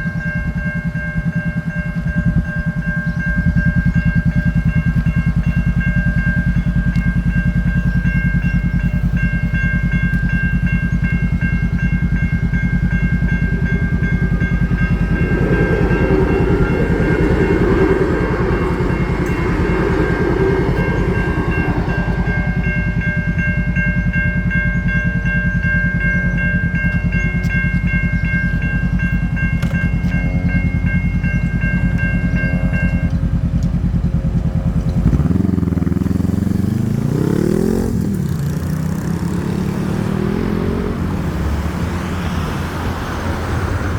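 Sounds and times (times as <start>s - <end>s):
level crossing warning bells: 0.0s - 42.3s
train rumble: 0.0s - 43.9s.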